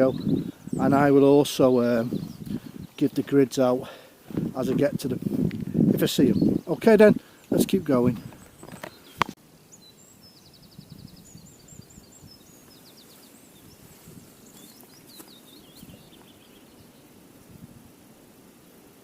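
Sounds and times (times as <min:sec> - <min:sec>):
small birds twittering: 0:00.0 - 0:17.3.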